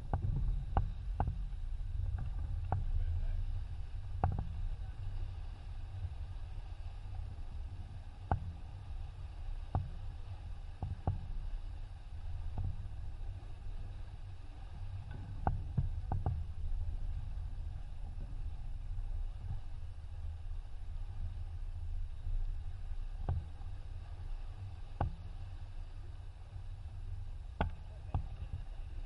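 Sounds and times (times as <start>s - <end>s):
water rushing past hull: 0.0s - 29.0s
wind rumble on microphone: 0.0s - 29.0s.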